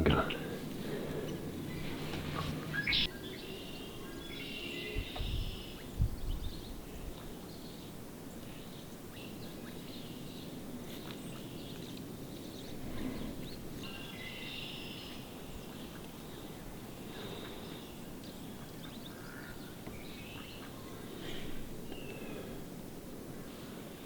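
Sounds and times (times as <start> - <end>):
small birds chirping: 0.0 - 22.6.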